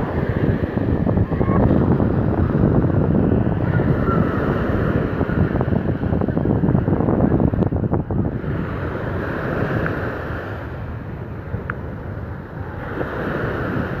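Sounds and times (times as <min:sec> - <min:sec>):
waves washing up a beach: 0:00.0 - 0:14.0
wind buffeting microphone: 0:00.0 - 0:14.0.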